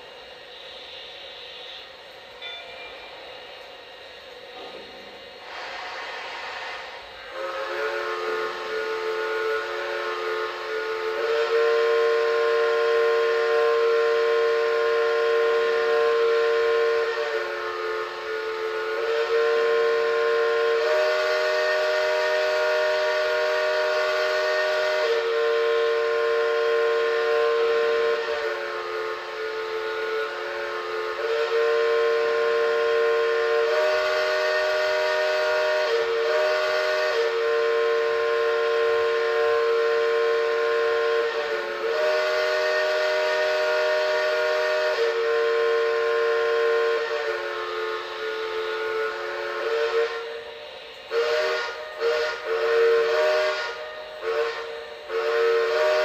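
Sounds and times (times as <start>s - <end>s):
model train horns and whistles: 0.0s - 56.0s.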